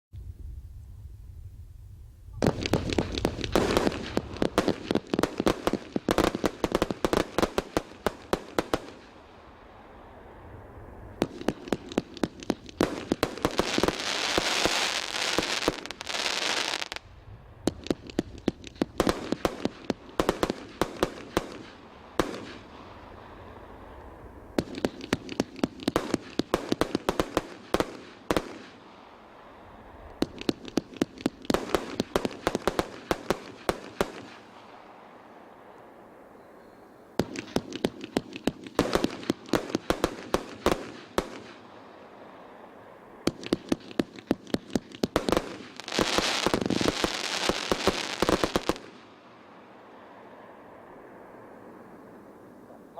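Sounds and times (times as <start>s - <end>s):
firework volleys of sharp shots: 2.3s - 10.0s, 11.0s - 35.1s, 37.2s - 49.4s
firework hissing crackle: 2.3s - 35.8s, 37.2s - 50.0s.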